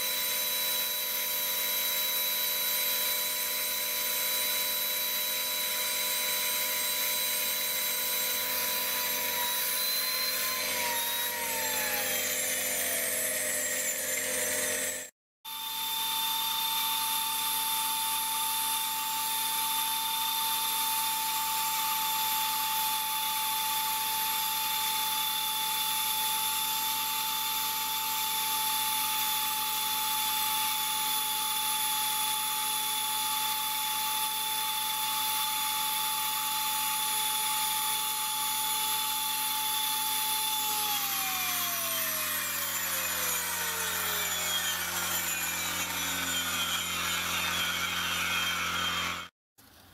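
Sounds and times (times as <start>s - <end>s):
air die grinder whining: 0.0s - 49.3s.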